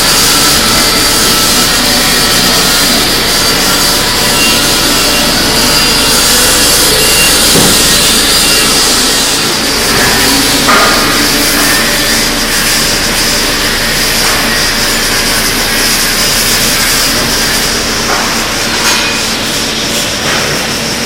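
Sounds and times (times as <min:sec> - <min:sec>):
welding arc crackling hiss: 0:00.0 - 0:21.0.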